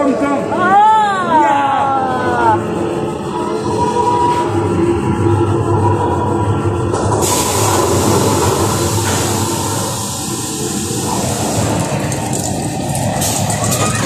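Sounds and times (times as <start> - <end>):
loud rushing noise: 2.5 - 14.0.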